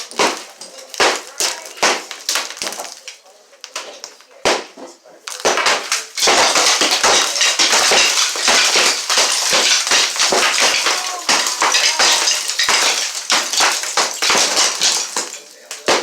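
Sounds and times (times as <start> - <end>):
debris crumbling and falling: 0.0 - 16.0
sharp knocks and cracks: 0.0 - 16.0.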